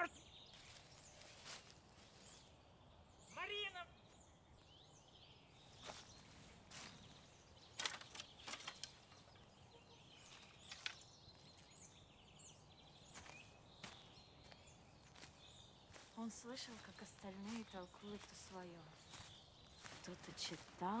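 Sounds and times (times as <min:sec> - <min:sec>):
distant birds chirping: 0:00.0 - 0:21.0.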